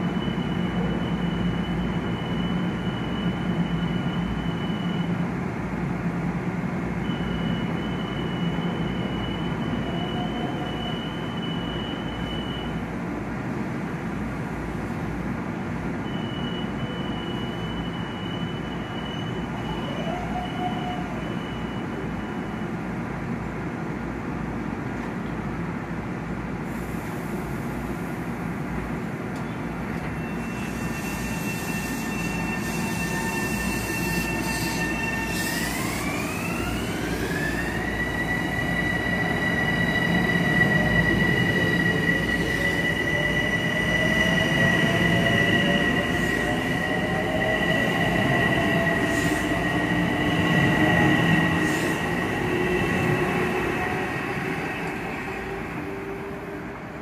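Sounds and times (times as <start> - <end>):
high electrical whine of train: 0.0 - 57.0
rumble of train cars: 0.0 - 57.0.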